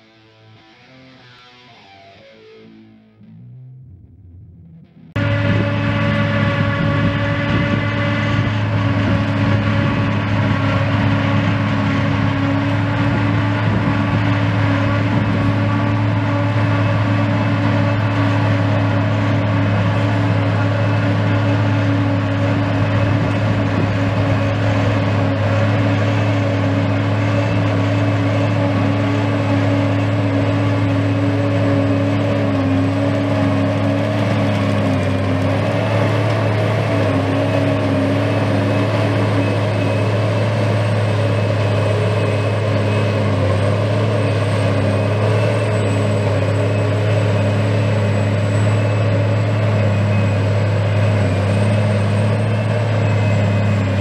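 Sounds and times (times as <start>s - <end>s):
forage harvester chopping grass: 5.2s - 54.0s.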